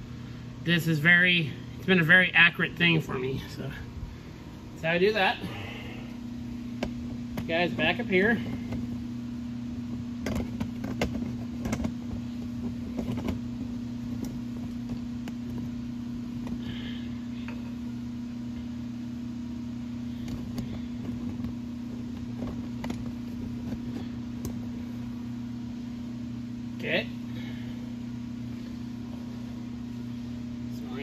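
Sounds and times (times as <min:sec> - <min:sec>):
low hum of shop equipment: 0:00.0 - 0:31.0.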